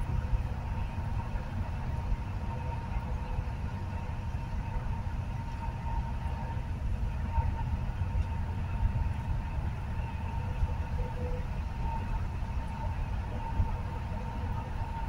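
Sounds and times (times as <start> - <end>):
faint steady whine: 0.0 - 15.0
tyre and engine rumble inside vehicle: 0.0 - 15.0.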